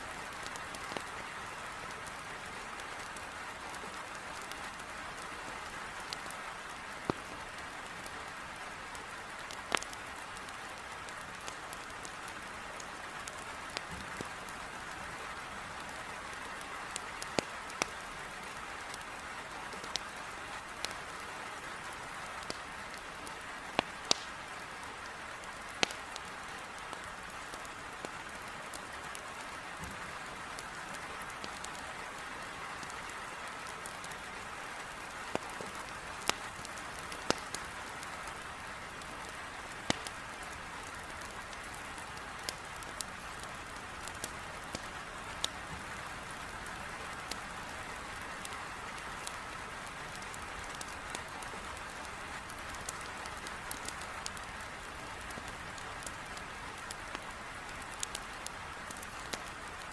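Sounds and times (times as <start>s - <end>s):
heavy rain on a window: 0.0s - 59.9s.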